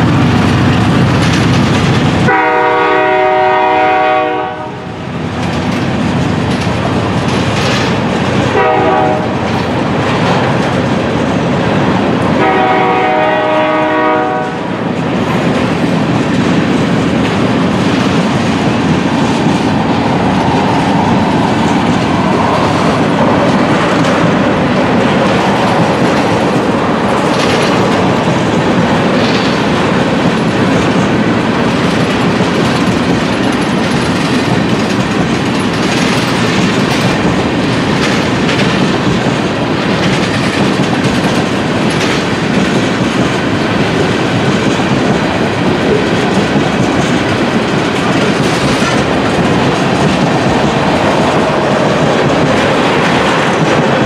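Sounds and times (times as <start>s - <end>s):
train wheels rumbling on rail: 0.0s - 54.0s
wheels clickety-clack on track: 0.0s - 54.0s.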